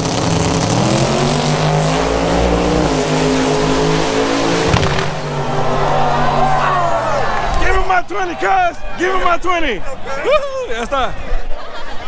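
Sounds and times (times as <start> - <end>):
race engines revving: 0.0 - 10.0.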